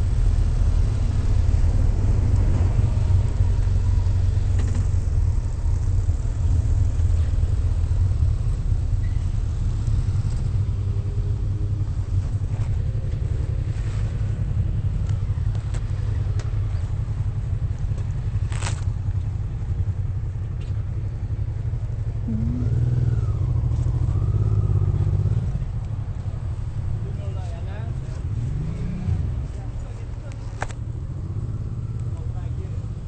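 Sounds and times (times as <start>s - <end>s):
motorcycle engines rumbling: 0.0s - 33.0s.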